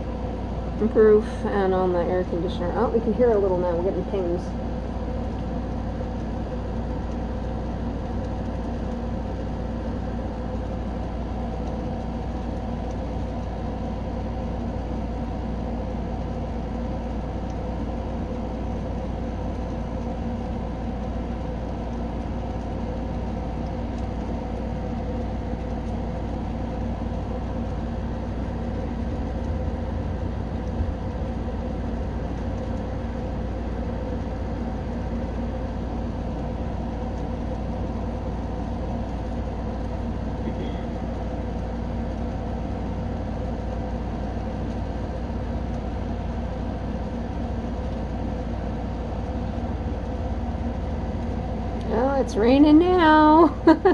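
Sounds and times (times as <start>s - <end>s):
steady machine hum: 0.0s - 53.9s.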